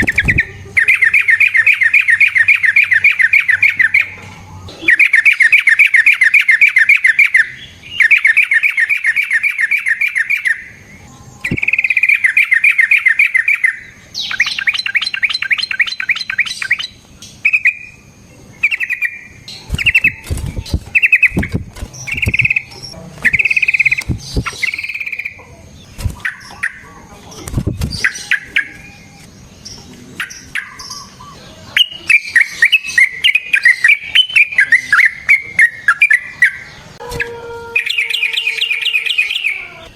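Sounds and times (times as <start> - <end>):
bird singing rattling trills: 0.0 - 37.0, 37.8 - 39.9
bird chirping notes: 0.0 - 39.9.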